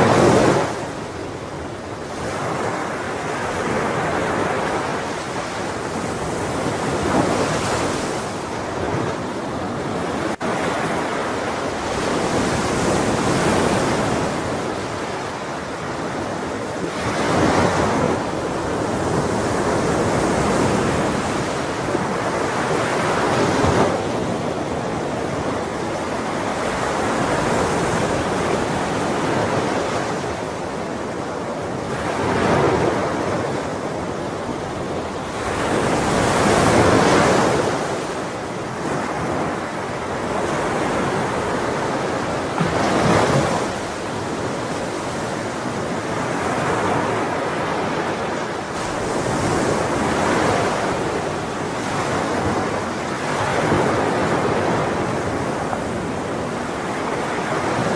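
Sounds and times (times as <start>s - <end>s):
ocean waves breaking on shore: 0.0s - 57.9s.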